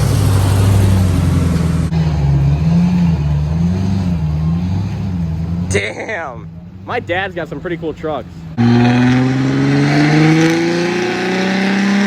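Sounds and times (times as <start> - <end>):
vehicle engine revving: 0.0 - 7.3, 8.4 - 12.0.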